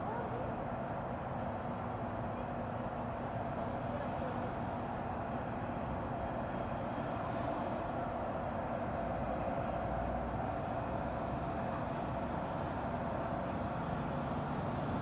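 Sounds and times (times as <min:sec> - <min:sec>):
insects chirring: 0:00.0 - 0:15.0
low rumble with faint hum: 0:00.0 - 0:15.0.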